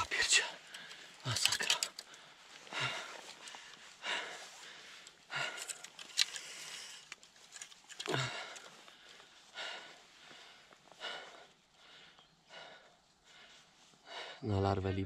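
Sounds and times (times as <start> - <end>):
man breathing hard: 0.2 - 7.2, 8.0 - 14.4.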